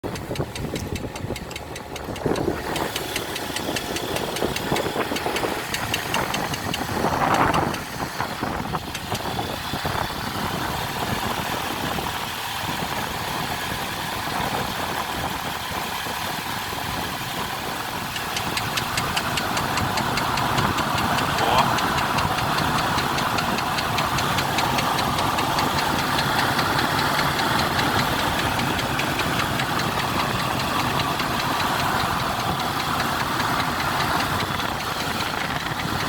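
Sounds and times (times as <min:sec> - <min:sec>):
engine idling with ticking knock: 0:00.0 - 0:36.0.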